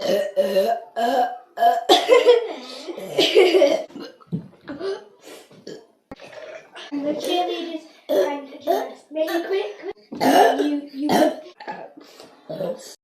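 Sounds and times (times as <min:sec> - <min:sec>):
girl burping loudly: 0:00.0 - 0:07.0, 0:08.1 - 0:08.9, 0:10.1 - 0:13.0.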